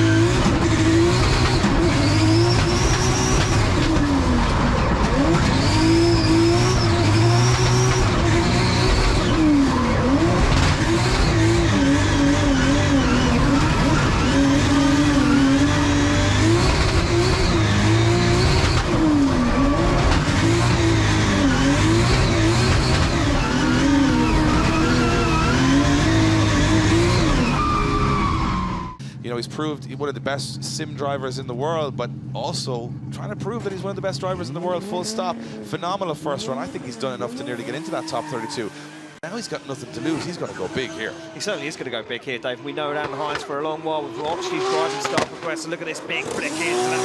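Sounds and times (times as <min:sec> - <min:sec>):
car engine at high revs: 0:00.0 - 0:29.0, 0:31.8 - 0:47.0.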